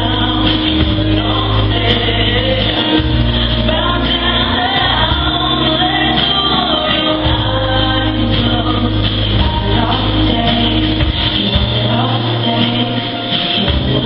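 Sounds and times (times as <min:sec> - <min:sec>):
group singing gospel song: 0:00.0 - 0:14.0
low bass line: 0:00.0 - 0:14.0.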